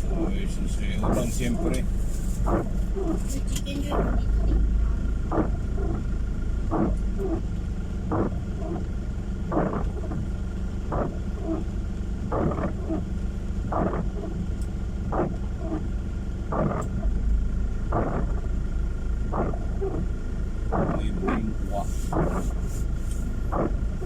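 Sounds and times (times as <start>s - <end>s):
windshield wipers sweeping: 0.0s - 17.2s, 17.8s - 18.6s, 19.2s - 24.0s
car and road rumble: 0.0s - 24.0s.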